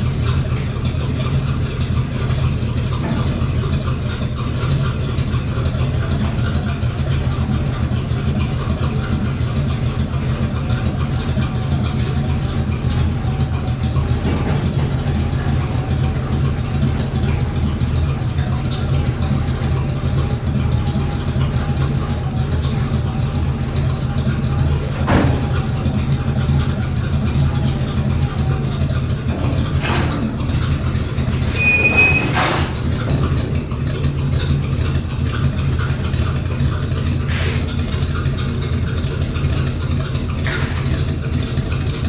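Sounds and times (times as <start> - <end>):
low mechanical drone: 0.0 - 42.0.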